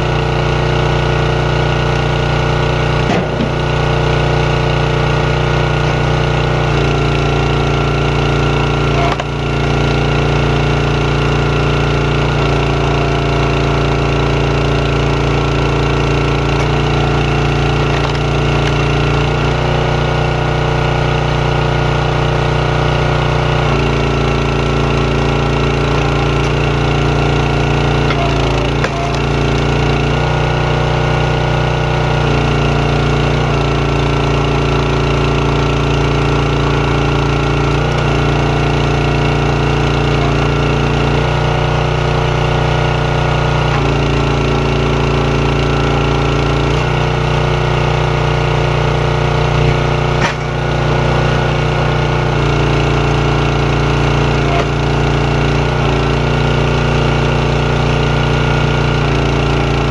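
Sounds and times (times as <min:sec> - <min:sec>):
small gas engine running: 0:00.0 - 0:59.9.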